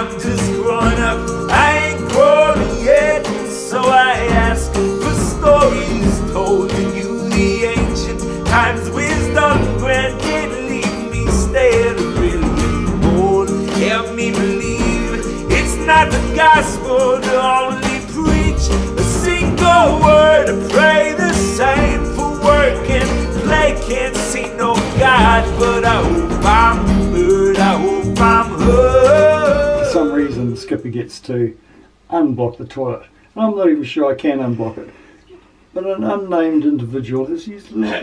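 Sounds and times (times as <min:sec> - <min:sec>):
song with singing voice: 0:00.0 - 0:30.9.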